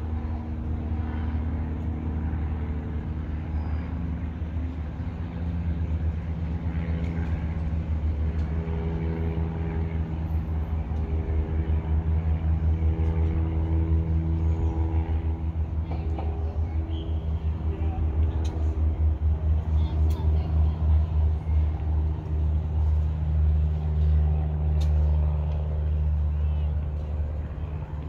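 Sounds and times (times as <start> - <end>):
motor vehicle engine drone: 0.0 - 28.0.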